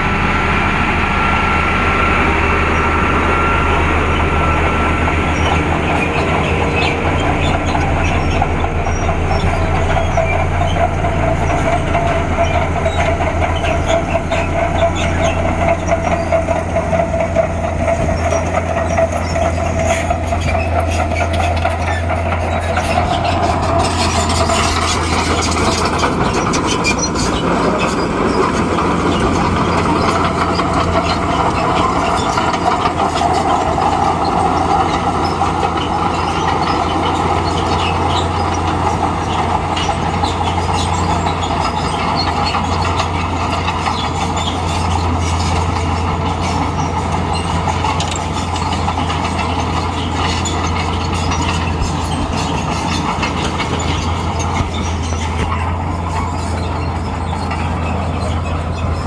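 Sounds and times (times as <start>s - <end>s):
bulldozer diesel engine: 0.0s - 59.0s
steel tracks clattering: 0.0s - 59.0s.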